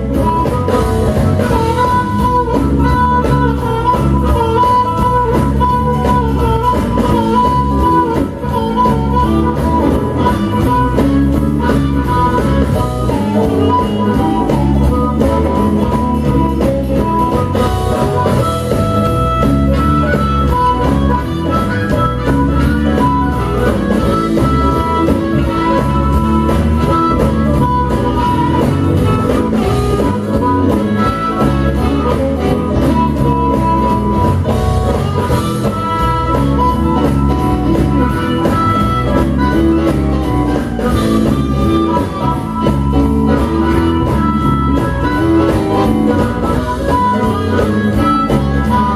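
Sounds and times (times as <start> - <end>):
electric guitar: 0.0 - 48.9
live blues band playing: 0.0 - 48.9.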